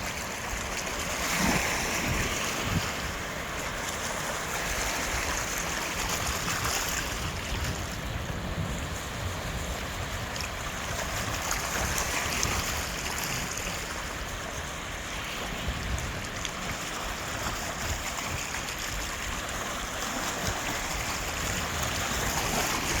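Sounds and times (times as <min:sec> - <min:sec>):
waves washing over pebbles: 0:00.0 - 0:23.0.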